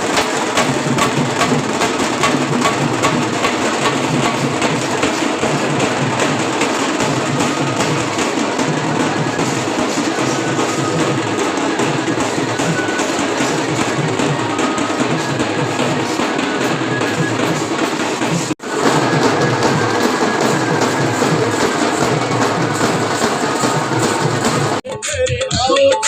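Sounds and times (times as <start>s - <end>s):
loud drum and percussion music: 0.0s - 26.0s.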